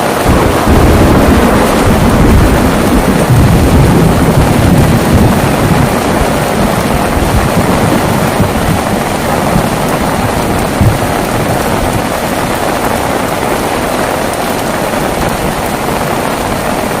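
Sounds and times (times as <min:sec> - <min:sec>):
heavy rain: 0:00.0 - 0:17.0
low thunder rumble: 0:00.0 - 0:17.0.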